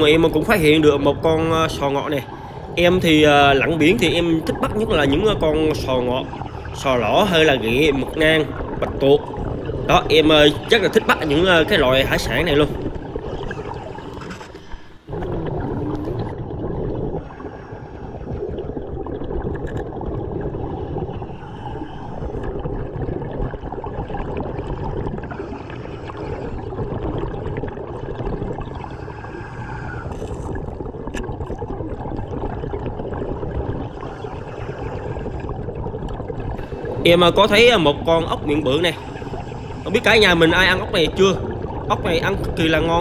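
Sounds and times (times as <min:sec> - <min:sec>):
bubbles gurgling underwater: 0:00.0 - 0:43.0
low rumble of water: 0:00.0 - 0:43.0.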